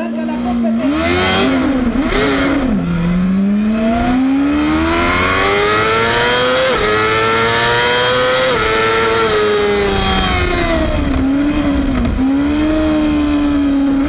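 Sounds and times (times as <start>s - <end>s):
racing motorcycle engine accelerating: 0.0s - 14.0s.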